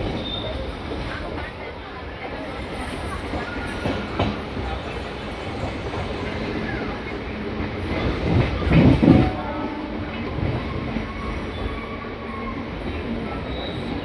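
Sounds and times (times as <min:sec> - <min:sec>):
train clatter: 0:00.0 - 0:11.8
train wheels rumbling on track: 0:00.0 - 0:14.0.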